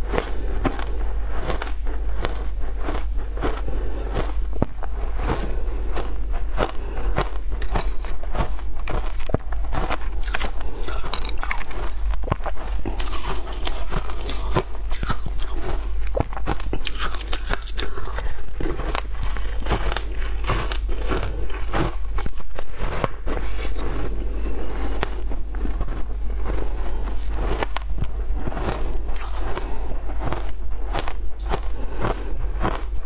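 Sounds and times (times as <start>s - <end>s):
chewing crunchy shaved ice: 0.0s - 33.0s.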